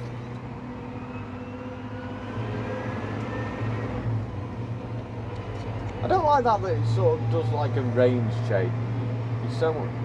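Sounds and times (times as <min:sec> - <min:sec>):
tractor engine drone: 0:00.0 - 0:10.0.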